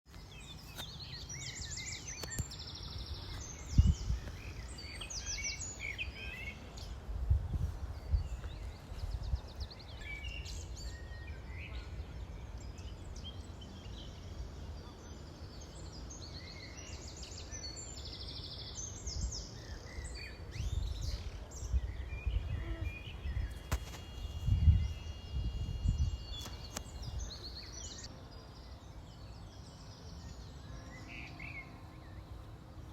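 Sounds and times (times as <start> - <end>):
birds singing and chirping: 0.1 - 32.9
low wind rumble: 1.1 - 32.9.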